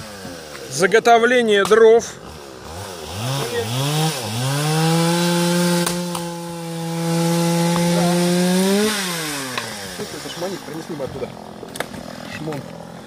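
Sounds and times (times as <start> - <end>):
axes splitting logs: 0.0 - 13.0
chainsaw cutting wood: 0.0 - 13.0.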